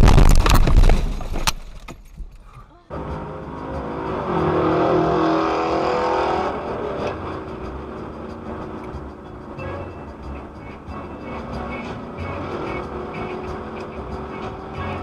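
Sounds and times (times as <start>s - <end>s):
car running on road: 2.9s - 15.0s.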